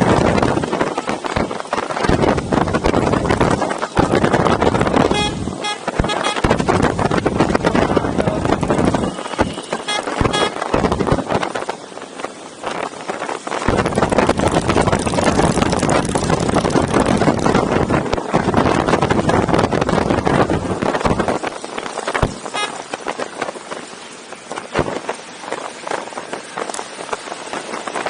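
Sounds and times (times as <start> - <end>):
motorcycle engines rumbling: 0.0 - 28.0
wind rushing over microphone: 0.0 - 28.0.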